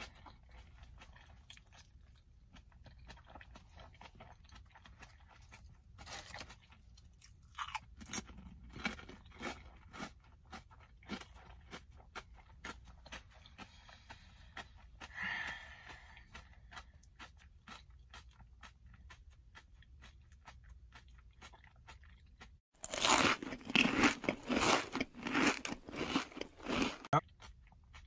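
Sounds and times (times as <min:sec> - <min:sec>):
person chewing with soft crunching: 0:00.0 - 0:28.0.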